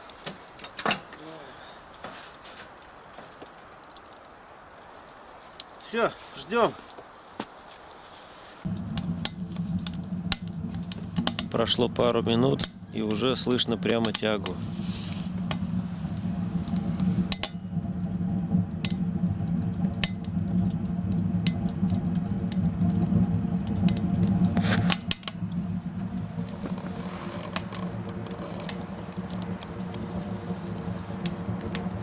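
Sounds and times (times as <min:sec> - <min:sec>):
stove draft humming: 0:00.0 - 0:02.9, 0:08.3 - 0:32.0
burning wood crackling and popping: 0:00.0 - 0:32.0.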